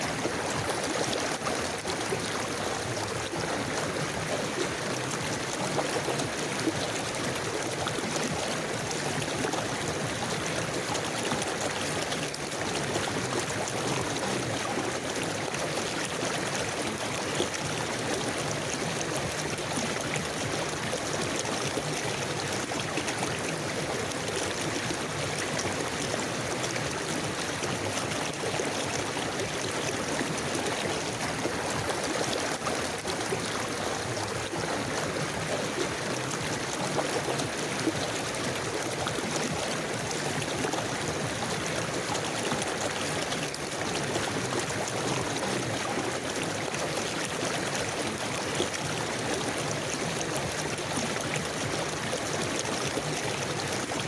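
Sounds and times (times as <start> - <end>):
river water rushing and gurgling: 0.0 - 54.0.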